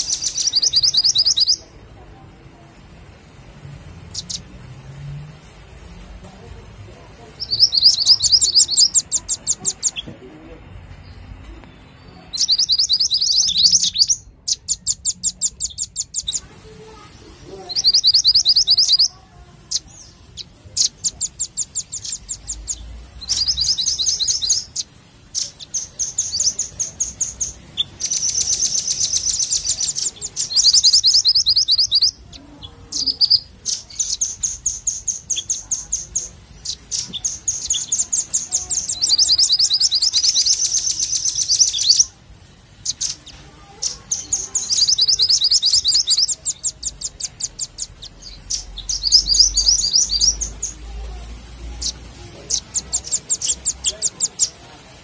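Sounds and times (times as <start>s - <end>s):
bird chirping rapidly: 0.0s - 1.8s, 4.0s - 4.8s, 7.1s - 10.1s, 11.0s - 55.0s.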